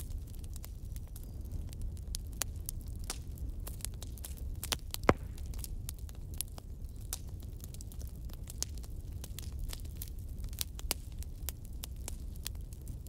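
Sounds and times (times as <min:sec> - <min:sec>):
sharp pops of fire: 0:00.0 - 0:12.7
wood fire crackling: 0:00.0 - 0:13.0.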